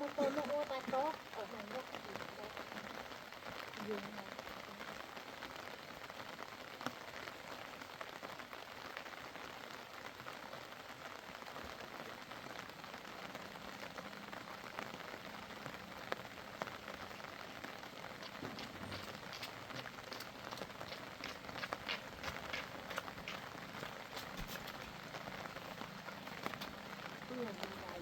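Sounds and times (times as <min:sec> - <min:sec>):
hiss like rain: 0:00.0 - 0:28.0.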